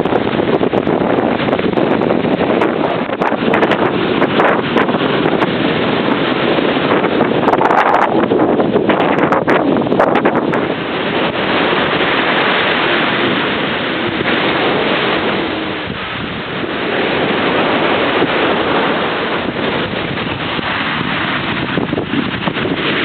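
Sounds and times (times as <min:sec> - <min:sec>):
ocean waves breaking: 0:00.0 - 0:23.0
wind buffeting microphone: 0:00.0 - 0:23.0.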